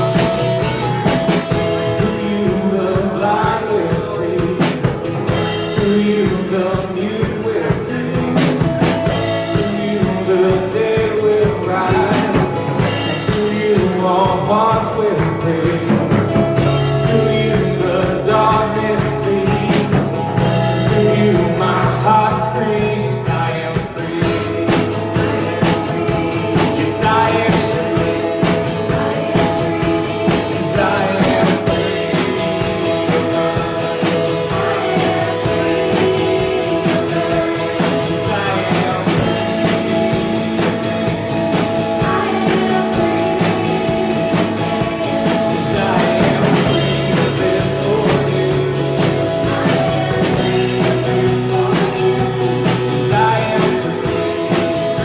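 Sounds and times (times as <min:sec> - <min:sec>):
drums and cymbals: 0:00.0 - 0:55.0
person singing: 0:00.0 - 0:55.0
worship band playing: 0:00.0 - 0:55.0.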